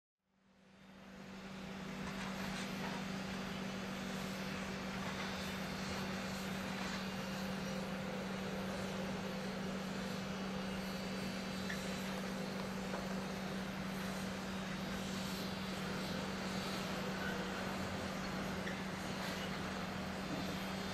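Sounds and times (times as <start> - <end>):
heavy machinery noise: 1.3 - 20.9.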